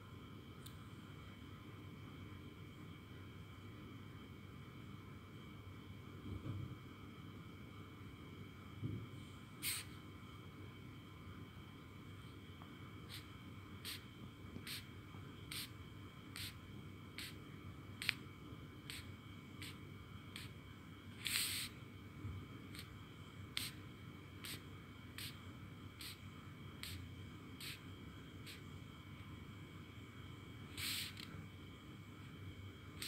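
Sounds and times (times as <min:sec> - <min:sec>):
faint high hum: 0:00.0 - 0:33.0.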